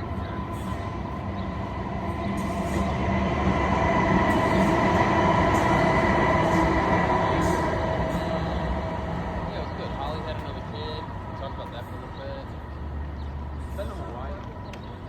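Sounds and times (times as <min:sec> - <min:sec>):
light rail train whine: 0:00.0 - 0:15.0.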